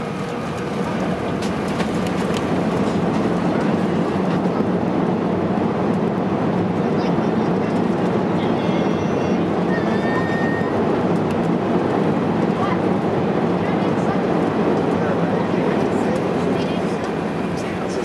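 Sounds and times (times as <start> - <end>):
airplane cabin rumble: 0.0 - 18.0.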